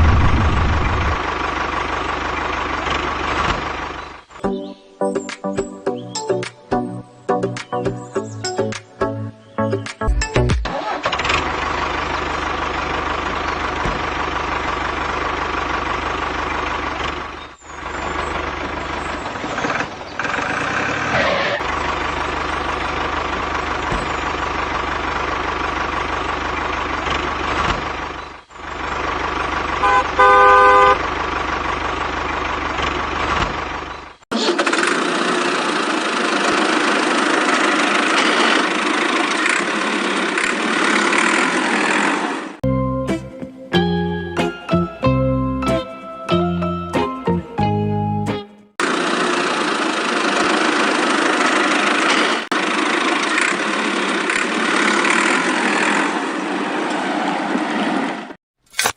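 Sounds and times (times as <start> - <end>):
tractor engine running: 0.0 - 4.7, 9.8 - 56.6.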